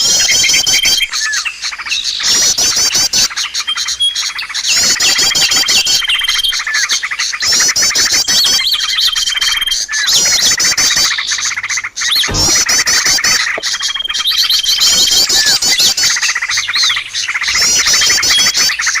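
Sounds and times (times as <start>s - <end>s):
small birds chirping and trilling: 0.0s - 19.0s.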